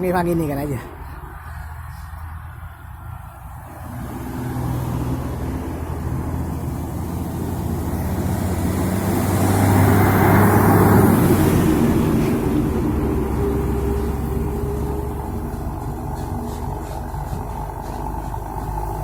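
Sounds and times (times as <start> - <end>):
diesel engine passing: 0.0 - 19.0
road and tyre noise: 0.0 - 19.0.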